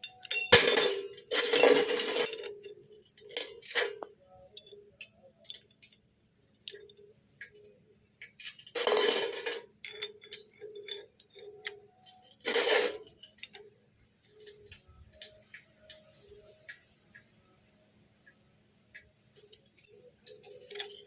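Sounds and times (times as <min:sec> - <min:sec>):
metal parts and tools clinking: 0:00.0 - 0:06.0, 0:06.6 - 0:16.6, 0:19.4 - 0:21.0.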